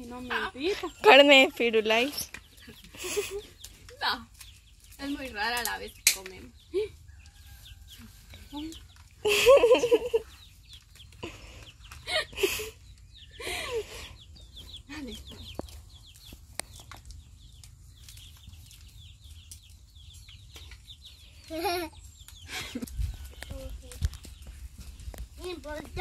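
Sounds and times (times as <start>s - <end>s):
chickens clucking: 0.1s - 26.0s.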